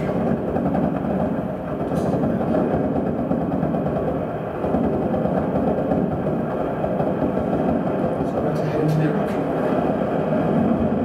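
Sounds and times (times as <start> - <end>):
dense low rumble of pops: 0.0 - 11.0.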